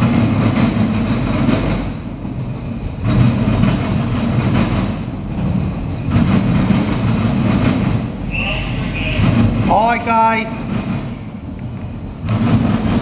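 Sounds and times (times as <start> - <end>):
freight train rolling past: 0.0 - 13.0
steel wheels rumbling on rail: 0.0 - 13.0.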